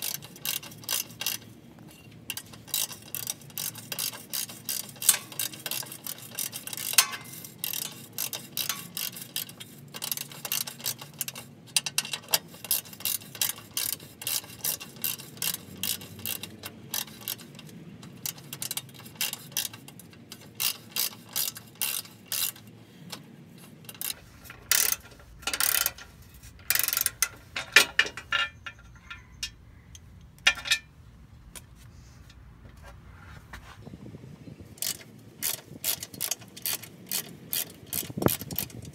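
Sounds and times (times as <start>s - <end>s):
ratchet wrench clicking: 0.0s - 1.6s, 2.3s - 30.9s, 34.8s - 38.9s.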